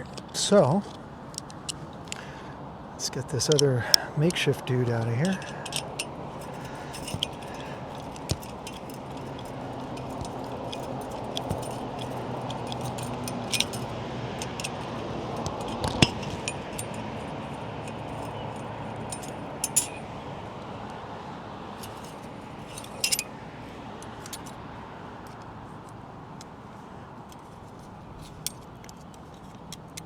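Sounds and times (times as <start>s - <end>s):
metal hardware clinking: 0.0s - 2.3s, 3.2s - 20.9s, 21.7s - 30.0s
faint steady hum: 0.0s - 30.0s.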